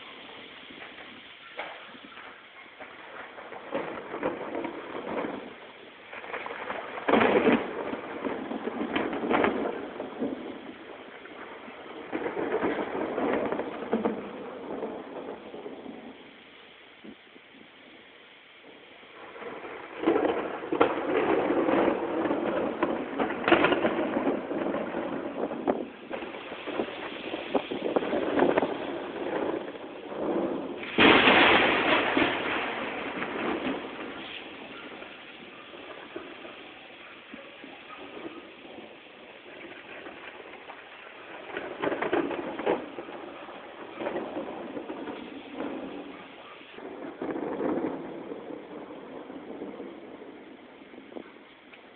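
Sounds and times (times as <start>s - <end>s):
steady background hiss: 0.0s - 47.3s
rolling thunder with sharp cracks: 0.0s - 51.9s.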